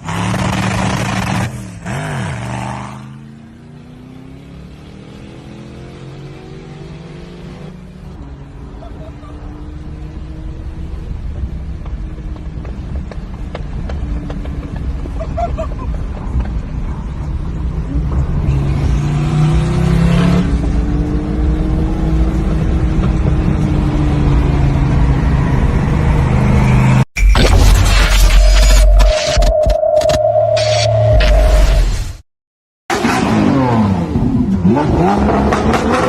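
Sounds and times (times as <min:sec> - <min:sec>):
loud car engine and exhaust: 0:00.0 - 0:27.1, 0:32.9 - 0:36.0.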